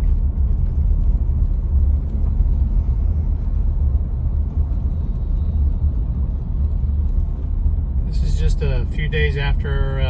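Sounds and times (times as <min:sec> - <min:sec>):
car interior road rumble: 0:00.0 - 0:10.0.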